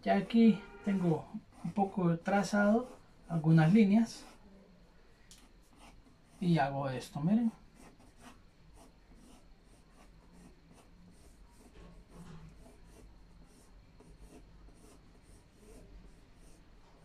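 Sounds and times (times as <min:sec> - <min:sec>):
pencil strokes on paper: 0:00.0 - 0:04.4, 0:05.4 - 0:17.0.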